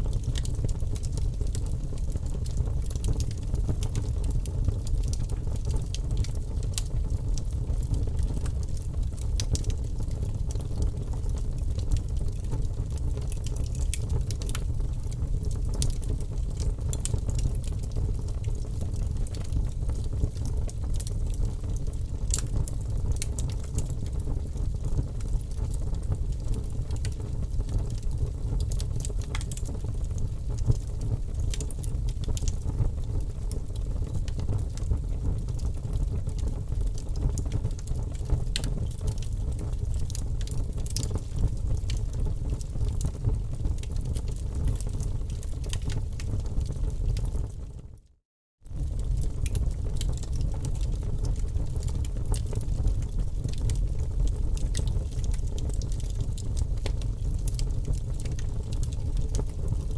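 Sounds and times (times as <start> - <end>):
wood fire crackling: 0.0 - 47.6, 48.7 - 59.9
fire popping and snapping: 0.1 - 47.6, 48.7 - 59.9.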